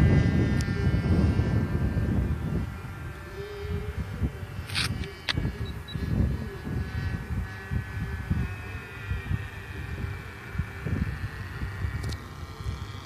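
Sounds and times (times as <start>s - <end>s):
model airplane engine droning: 0.0s - 13.0s
wind buffeting microphone: 0.0s - 13.0s.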